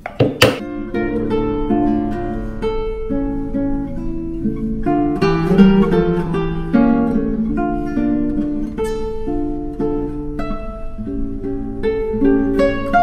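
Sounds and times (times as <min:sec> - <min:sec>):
plucked acoustic guitar: 0:00.0 - 0:13.0.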